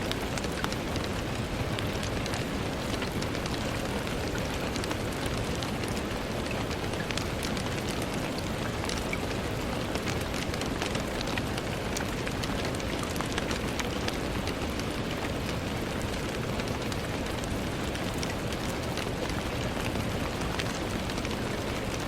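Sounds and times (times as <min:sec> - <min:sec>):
rain on a window: 0:00.0 - 0:22.0.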